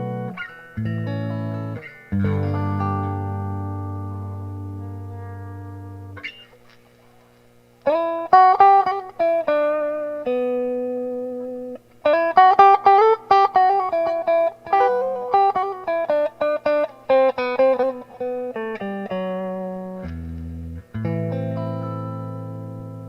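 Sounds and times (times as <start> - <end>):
electric guitar picked melody: 0.0 - 6.8, 7.8 - 23.0
faint steady hum: 0.0 - 23.0.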